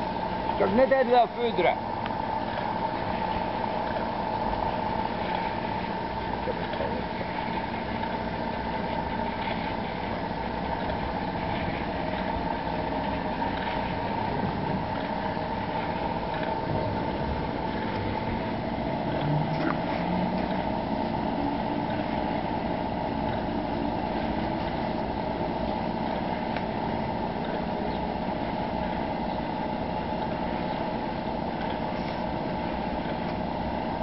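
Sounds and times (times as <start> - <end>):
engine running steadily: 0.0 - 34.0.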